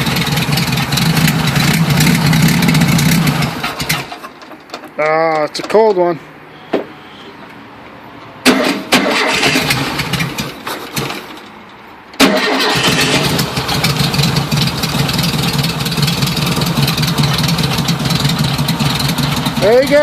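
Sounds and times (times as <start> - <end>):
car engine sputtering and running: 0.0 - 5.0, 8.4 - 20.0.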